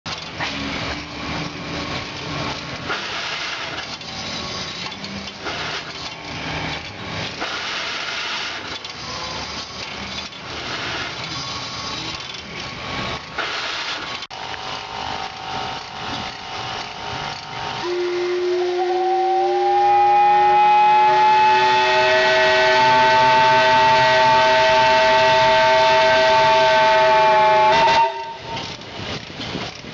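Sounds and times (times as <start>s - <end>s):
steam traction engine running: 0.1s - 29.9s.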